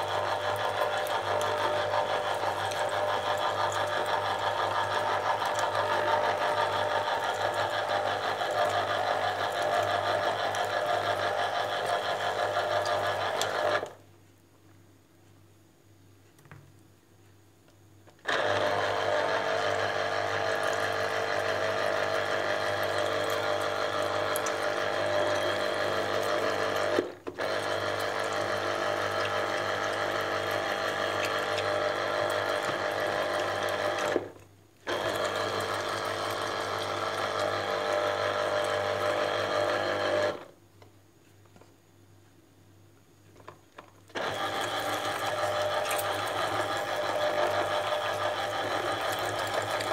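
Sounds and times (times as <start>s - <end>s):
kitchen appliance motor running: 0.0s - 13.9s, 18.2s - 40.5s, 44.1s - 49.9s.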